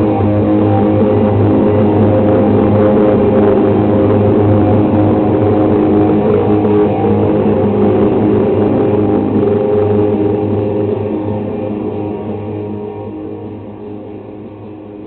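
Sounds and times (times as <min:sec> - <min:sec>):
electric guitars ringing: 0:00.0 - 0:15.0
low drone: 0:00.0 - 0:15.0.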